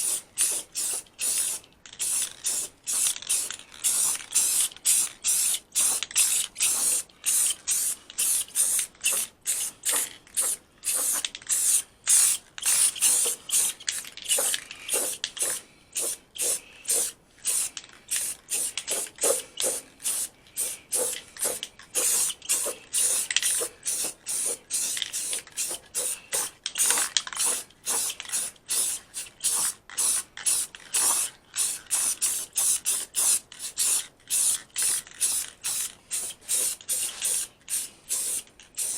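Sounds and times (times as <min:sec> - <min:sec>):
spray paint hissing bursts: 0:00.0 - 0:38.9.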